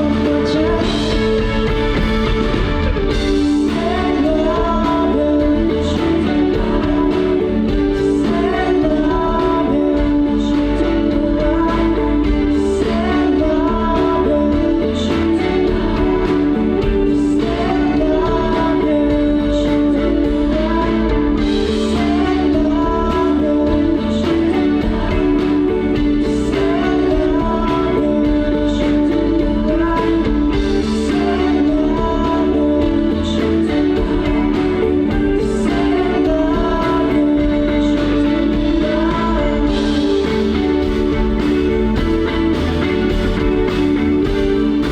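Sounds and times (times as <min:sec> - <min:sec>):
guitar: 0:00.0 - 0:44.9
live band playing: 0:00.0 - 0:44.9
singer's voice: 0:00.0 - 0:44.9.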